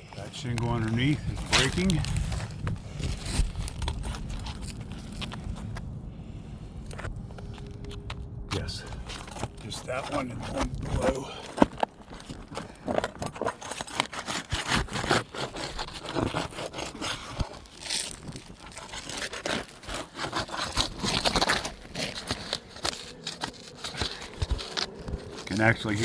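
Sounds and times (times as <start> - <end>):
roof shingles scraping and tearing: 0.0 - 6.3, 6.9 - 26.0.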